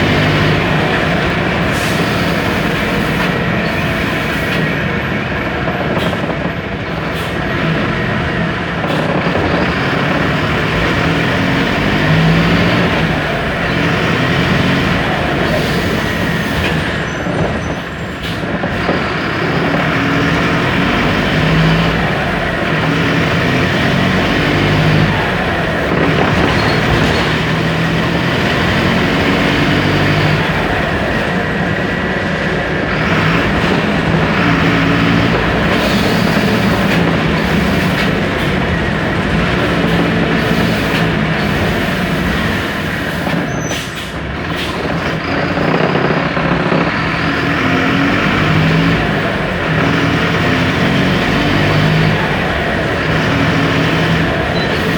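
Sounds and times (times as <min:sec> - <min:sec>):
bus diesel engine running: 0:00.0 - 0:54.9
road and body noise: 0:00.0 - 0:54.9.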